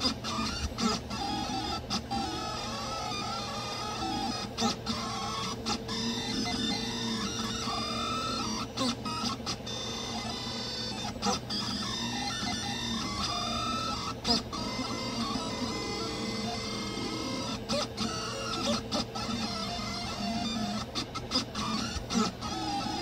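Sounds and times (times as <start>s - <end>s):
steady hum: 0.0s - 23.0s
stepper motors whining: 0.0s - 23.0s.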